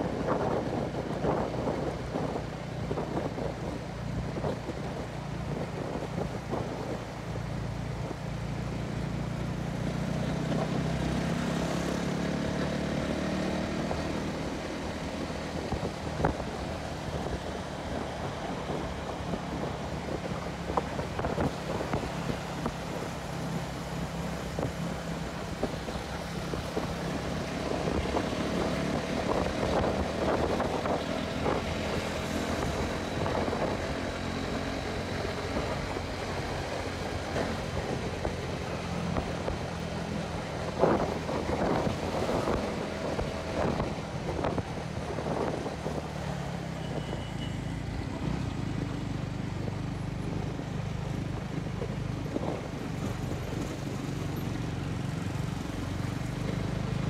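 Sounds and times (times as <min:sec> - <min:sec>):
wind buffeting microphone: 0:00.0 - 0:09.6, 0:13.1 - 0:46.8, 0:48.0 - 0:57.0.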